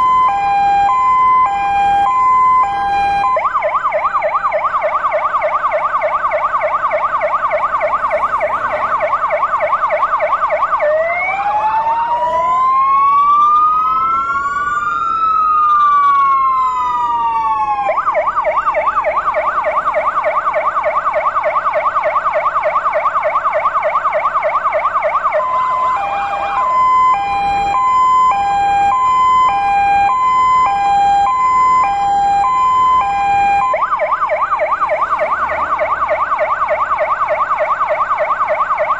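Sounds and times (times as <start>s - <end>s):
fire engine siren yelp: 0.0s - 38.9s
siren rising and falling wail: 0.0s - 38.9s
two-tone hi-lo siren: 0.0s - 38.9s.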